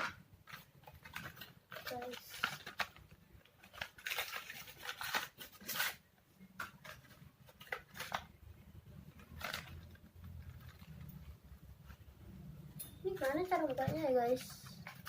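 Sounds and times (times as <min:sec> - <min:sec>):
plastic packaging crackling: 0:00.0 - 0:12.1, 0:13.0 - 0:15.0.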